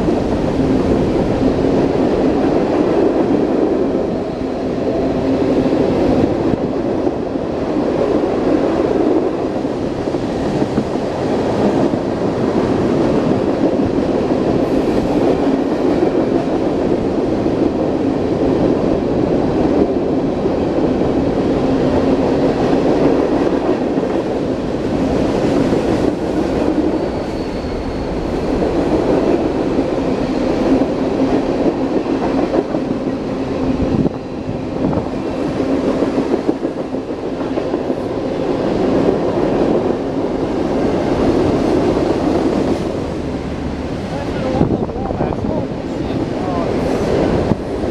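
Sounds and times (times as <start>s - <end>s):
train cars rolling on rails: 0.0s - 47.9s.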